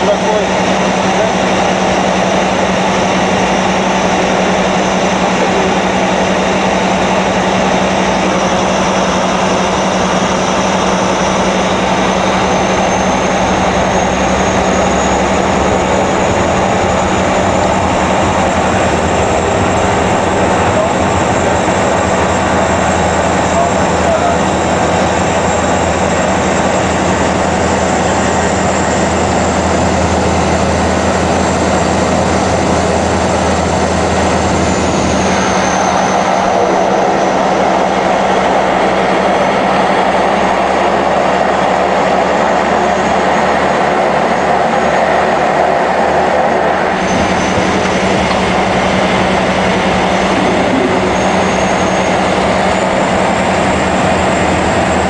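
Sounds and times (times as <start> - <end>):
high turbine whine: 0.0 - 55.0
turboprop engine drone: 0.0 - 55.0.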